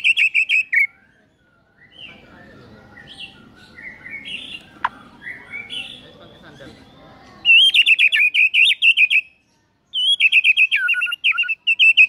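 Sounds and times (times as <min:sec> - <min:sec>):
bird singing chirps and whistles: 0:00.0 - 0:12.0.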